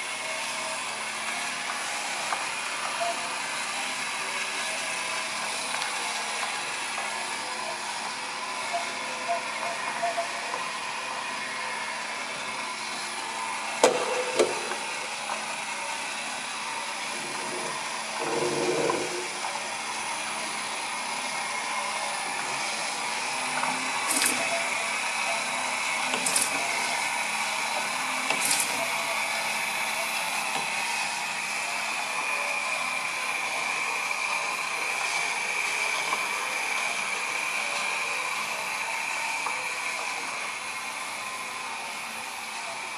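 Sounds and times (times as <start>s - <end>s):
machine hum and whine: 0.0s - 42.9s.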